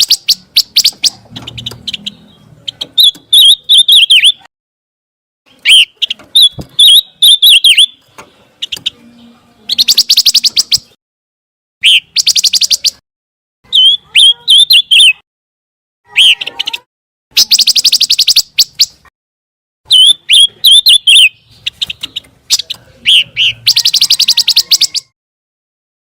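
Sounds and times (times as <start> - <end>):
songbird trilling and whistling: 0.0 - 4.5, 5.5 - 11.0, 11.8 - 13.0, 13.7 - 15.2, 16.1 - 19.1, 19.9 - 25.2.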